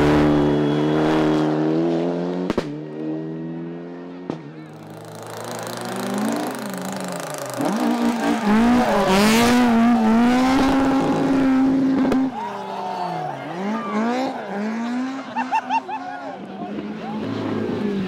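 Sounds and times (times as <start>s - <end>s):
rally car engine revving: 0.0s - 12.4s, 13.3s - 18.0s.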